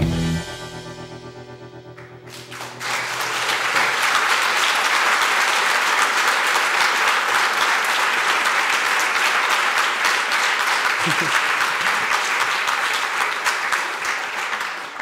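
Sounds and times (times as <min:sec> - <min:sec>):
audience applauding: 0:02.3 - 0:15.0.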